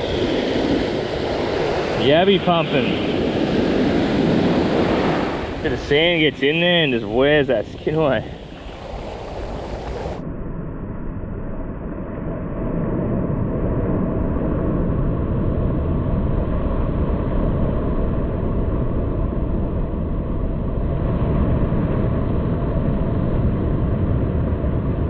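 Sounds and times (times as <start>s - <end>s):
muffled surf rumble: 0.0s - 25.0s.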